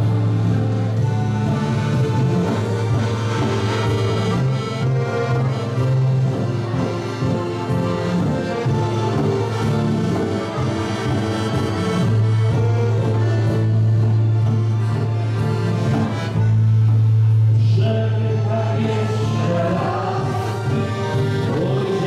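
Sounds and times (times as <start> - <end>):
keyboard accompaniment: 0.0 - 22.0
long held low bass notes: 0.0 - 22.0
piano accordion: 0.0 - 22.0.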